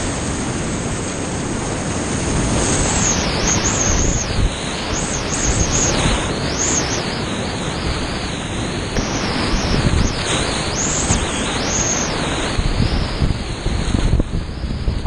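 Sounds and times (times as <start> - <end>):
whitewater rapids roaring: 0.0 - 15.0
wind buffeting the microphone: 0.0 - 15.0.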